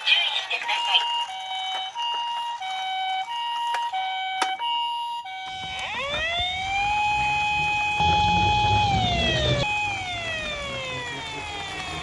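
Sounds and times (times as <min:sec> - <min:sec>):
two-tone electronic siren: 0:01.1 - 0:12.0
wailing siren: 0:01.1 - 0:12.0.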